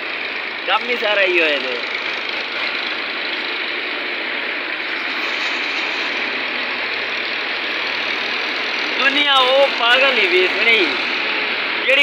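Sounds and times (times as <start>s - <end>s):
tractor engines idling: 0.0s - 12.0s.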